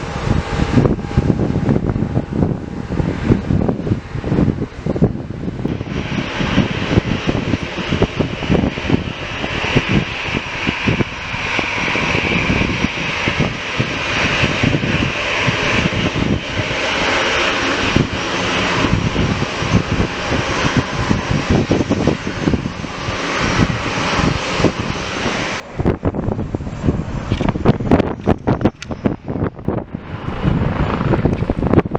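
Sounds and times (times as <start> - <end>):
airliner engines roaring: 0.0 - 31.9
wind buffeting microphone: 0.0 - 31.9.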